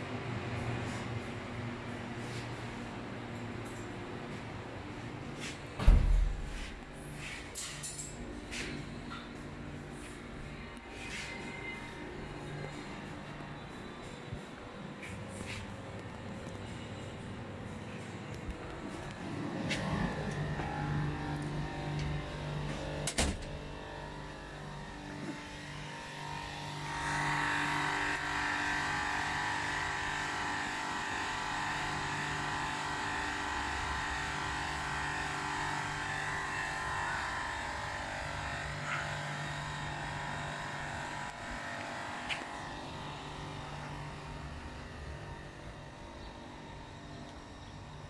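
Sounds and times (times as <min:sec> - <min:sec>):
mechanical hum with whine: 0:00.0 - 0:48.0.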